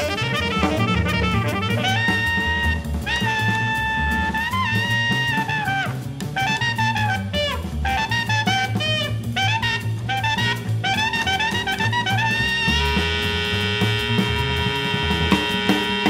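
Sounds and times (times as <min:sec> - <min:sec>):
bass: 0:00.0 - 0:16.0
drum kit cymbals: 0:00.0 - 0:16.0
tenor saxophone melody: 0:00.0 - 0:16.0.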